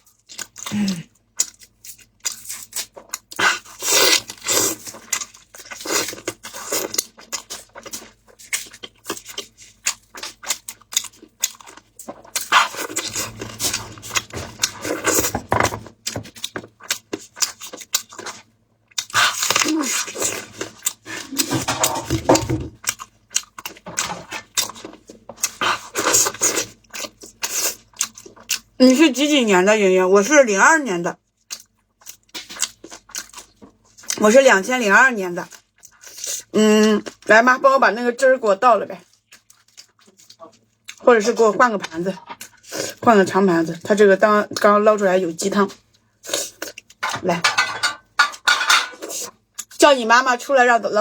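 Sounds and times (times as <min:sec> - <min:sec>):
person chewing food: 0:00.0 - 0:28.8, 0:31.2 - 0:34.2, 0:35.5 - 0:37.3, 0:39.0 - 0:41.1, 0:41.8 - 0:43.0, 0:45.6 - 0:49.8.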